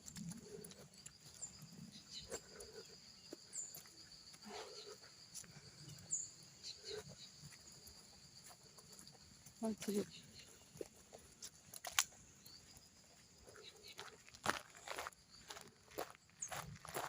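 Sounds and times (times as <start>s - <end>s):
high insect drone: 0.0s - 16.6s.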